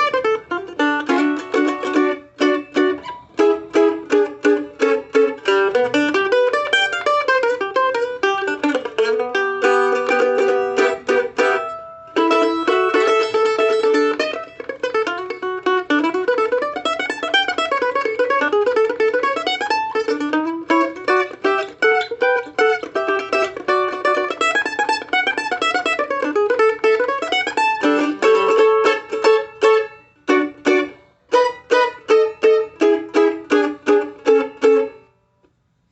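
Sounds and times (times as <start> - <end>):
mandolin playing: 0.0 - 35.4.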